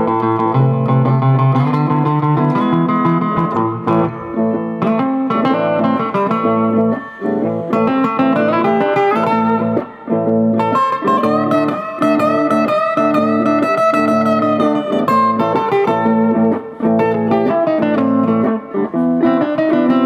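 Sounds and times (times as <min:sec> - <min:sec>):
blues guitar playing: 0:00.0 - 0:20.0.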